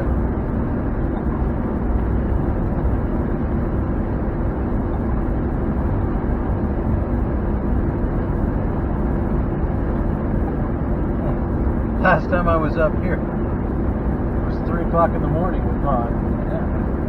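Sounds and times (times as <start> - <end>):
truck engine drone from cab: 0.0 - 17.0.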